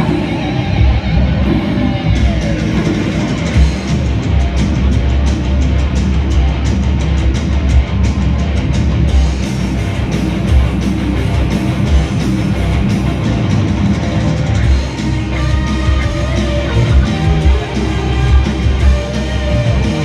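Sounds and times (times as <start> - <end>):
heavy metal band playing: 0.0 - 20.0.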